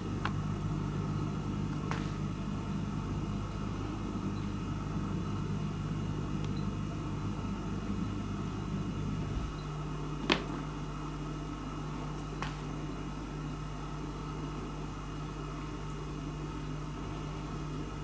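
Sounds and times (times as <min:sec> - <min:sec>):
household machine humming: 0:00.0 - 0:18.0.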